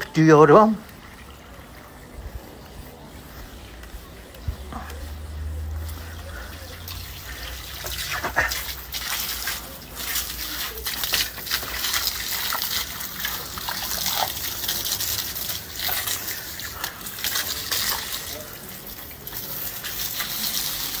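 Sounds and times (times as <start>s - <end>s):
hose water splashing on tiles: 0.0s - 21.0s.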